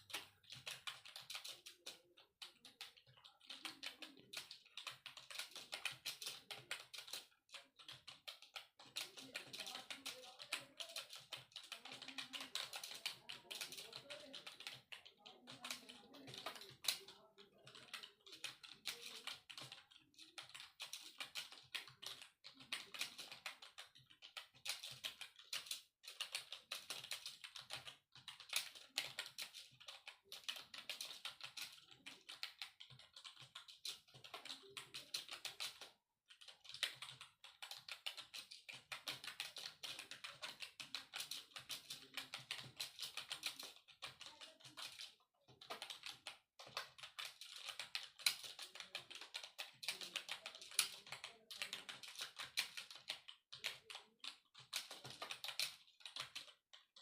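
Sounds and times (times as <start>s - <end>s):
fast typing on computer keyboard: 0.0s - 57.0s.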